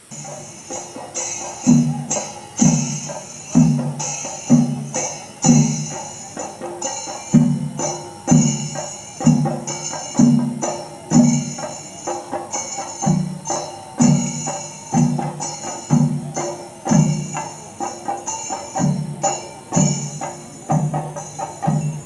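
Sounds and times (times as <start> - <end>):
drums played with sticks: 0.0 - 22.0
hand cymbals ringing: 0.0 - 22.0.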